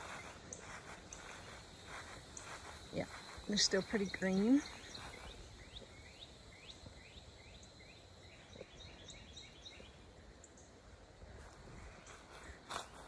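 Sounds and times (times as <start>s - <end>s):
bird singing faintly: 0.0s - 10.8s.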